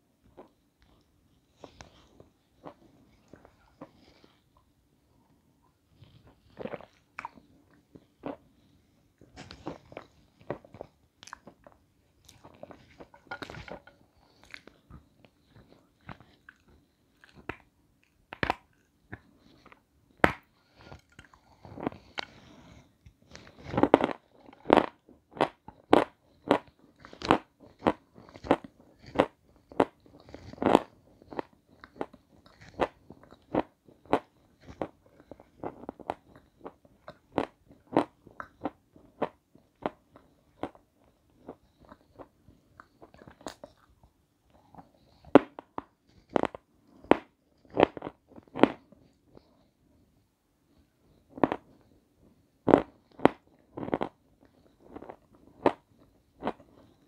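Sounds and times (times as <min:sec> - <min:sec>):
chewing crunchy food: 0:05.9 - 0:49.7, 0:52.6 - 0:57.0.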